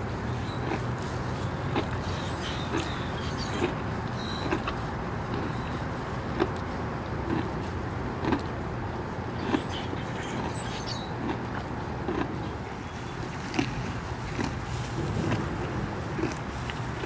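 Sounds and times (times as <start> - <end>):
low background rumble: 0.0 - 17.0
rhinoceros chewing hay: 0.0 - 17.0.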